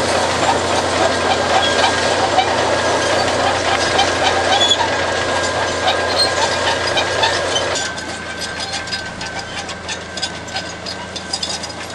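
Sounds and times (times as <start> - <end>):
bulldozer diesel engine running: 0.0 - 11.9.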